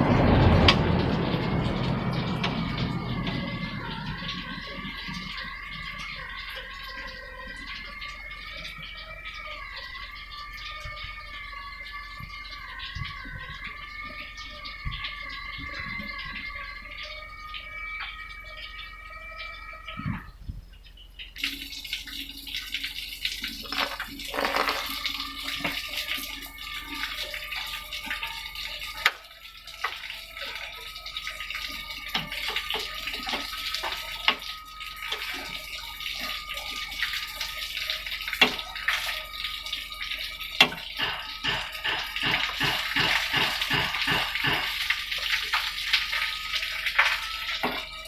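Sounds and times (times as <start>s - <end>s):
oil pouring and splashing: 0.0s - 20.0s, 20.6s - 48.0s.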